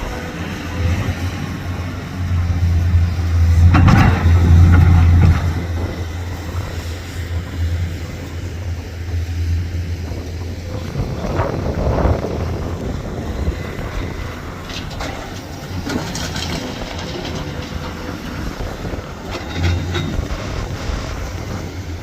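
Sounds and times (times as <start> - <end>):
motor vehicle running: 0.0 - 22.0.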